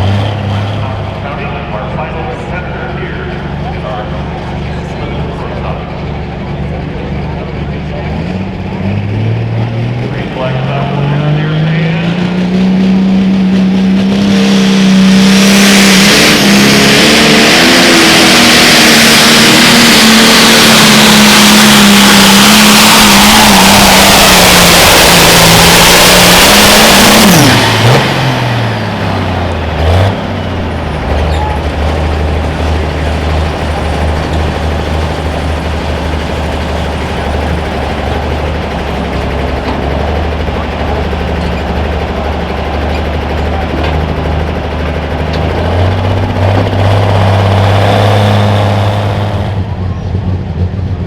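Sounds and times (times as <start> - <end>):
tractor engine at full throttle: 0.0 - 51.0
loud rushing noise: 8.4 - 51.0.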